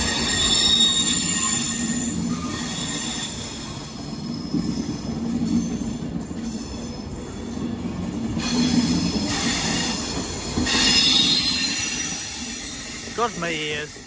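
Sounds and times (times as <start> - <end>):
train wheels squealing: 0.0 - 13.1.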